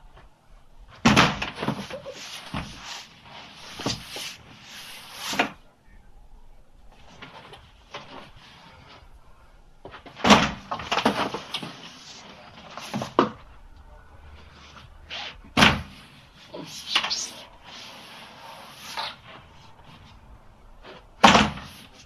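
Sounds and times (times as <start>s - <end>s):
clothing rustle: 0.0s - 5.7s, 6.8s - 22.0s.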